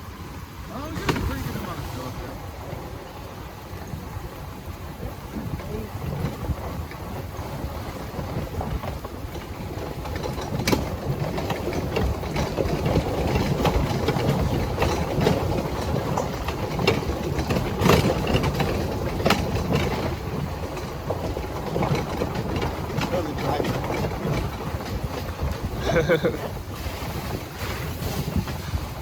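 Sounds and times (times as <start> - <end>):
cart rumbling over rough trail: 0.0 - 29.0
cart knocking over bumps: 0.3 - 29.0.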